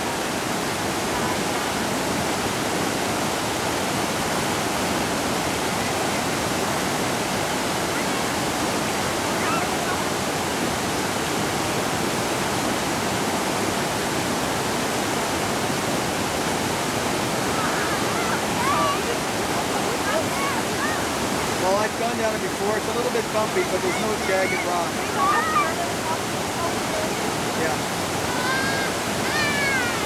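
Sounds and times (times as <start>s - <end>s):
water rushing over falls: 0.0s - 30.0s.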